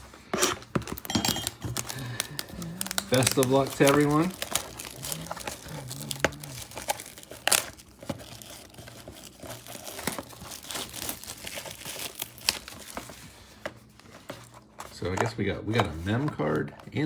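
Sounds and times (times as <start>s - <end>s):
wrapping crinkling and tearing: 0.0s - 15.2s.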